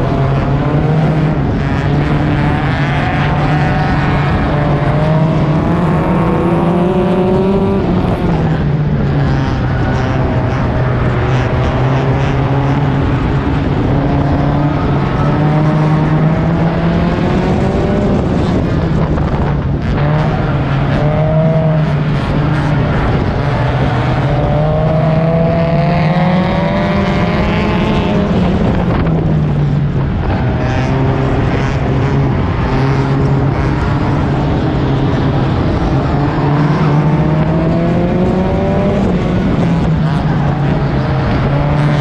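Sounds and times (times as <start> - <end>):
race car engine running hard: 0.0 - 42.0.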